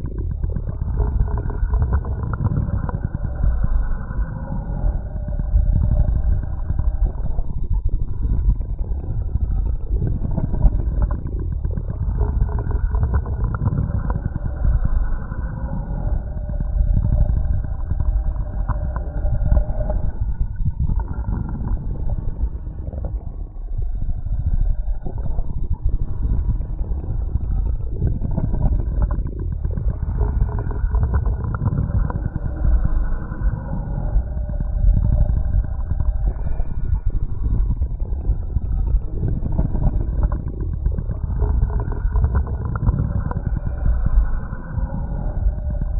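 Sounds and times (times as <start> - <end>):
internal body rumble: 0.0 - 45.9.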